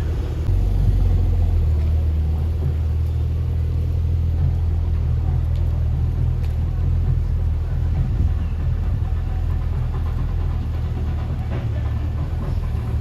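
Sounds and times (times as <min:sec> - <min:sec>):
deep diesel engine rumble: 0:00.0 - 0:13.0.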